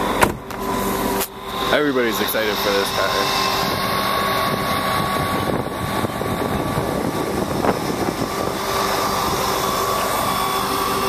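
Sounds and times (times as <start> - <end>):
faint steady whine: 0.0 - 11.0
vehicle engine drone: 0.0 - 11.0.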